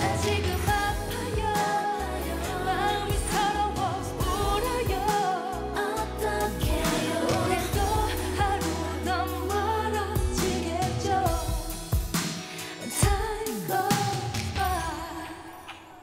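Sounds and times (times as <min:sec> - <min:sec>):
pop backing track: 0:00.0 - 0:16.0
women singing pop song: 0:00.0 - 0:16.0.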